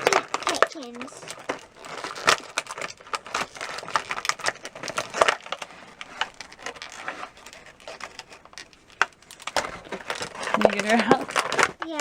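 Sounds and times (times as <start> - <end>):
stiff plastic packaging snapping: 0.0 - 12.0.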